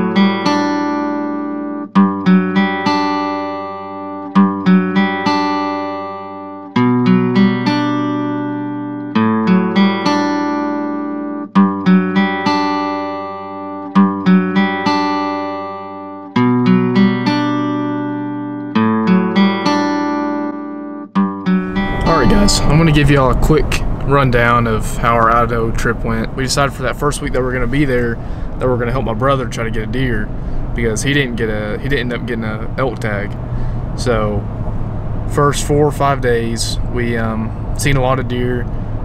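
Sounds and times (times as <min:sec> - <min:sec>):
plucked acoustic guitar notes: 0:00.0 - 0:38.9.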